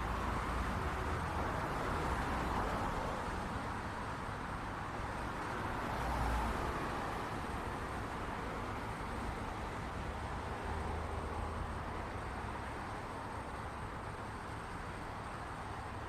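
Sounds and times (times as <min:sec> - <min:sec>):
cars passing with tyre noise: 0:00.0 - 0:16.0.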